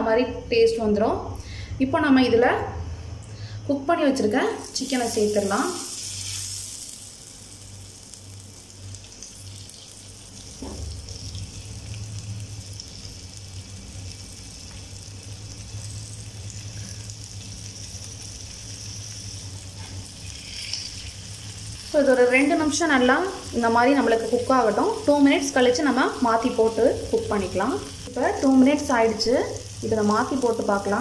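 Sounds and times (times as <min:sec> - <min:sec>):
chicken sizzling in oil: 0:04.6 - 0:31.0.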